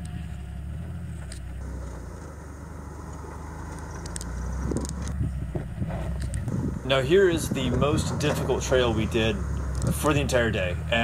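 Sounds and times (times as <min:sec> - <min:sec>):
stones clicking under tyres: 0:00.0 - 0:10.7
vehicle engine running at low revs: 0:00.0 - 0:11.0.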